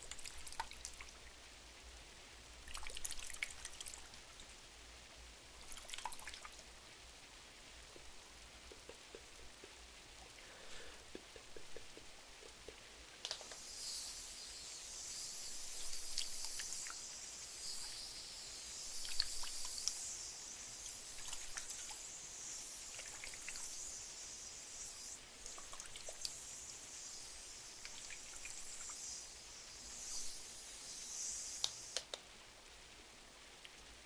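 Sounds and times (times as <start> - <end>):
soft rain hissing: 0.0 - 34.0.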